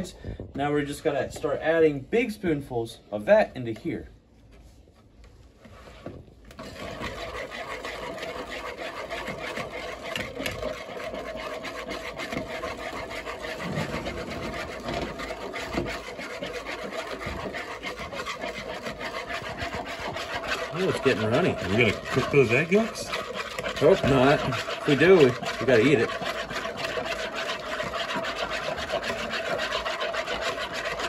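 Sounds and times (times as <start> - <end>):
wire whisk scraping a plastic bowl: 5.6 - 31.0.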